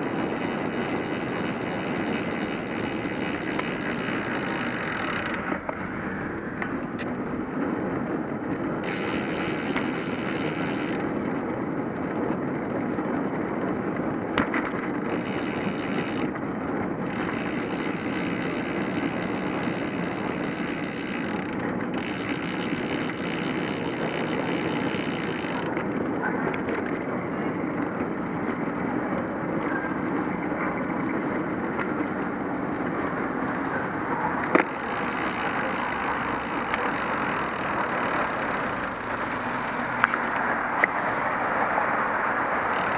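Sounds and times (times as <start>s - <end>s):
bike tyre roar on road: 0.0s - 42.9s.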